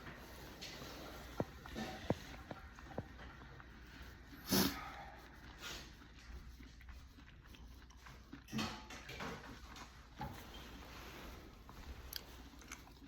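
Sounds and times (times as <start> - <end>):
chewing and crunching cereal: 0.1 - 13.0.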